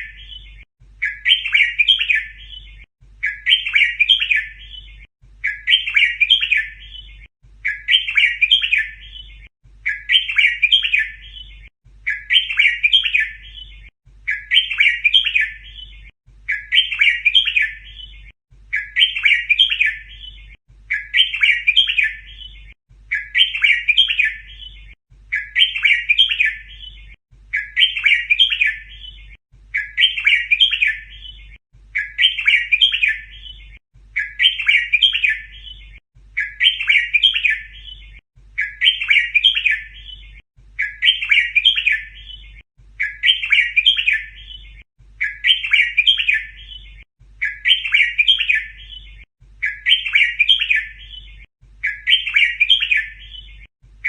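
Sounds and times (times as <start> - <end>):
bulbul warbled song: 0.0 - 53.7.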